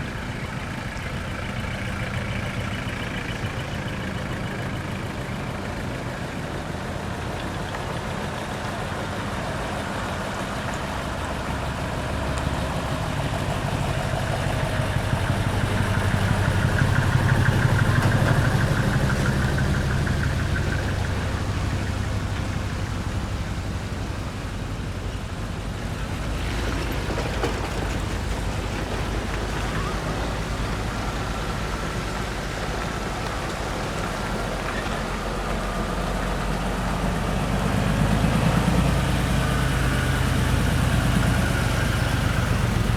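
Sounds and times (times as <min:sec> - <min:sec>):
diesel truck engine: 0:00.0 - 0:42.9.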